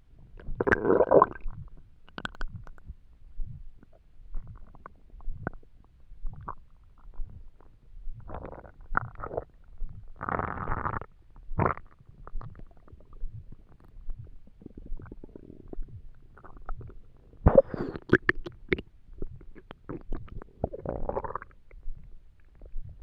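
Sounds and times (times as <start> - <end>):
stomach rumbling and gurgling: 0.0 - 23.0.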